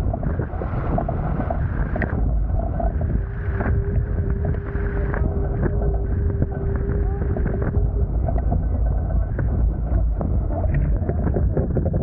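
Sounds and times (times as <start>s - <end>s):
steady hum: 0.0s - 12.0s
water rushing past hulls: 0.0s - 12.0s
wind buffeting microphone: 0.0s - 12.0s.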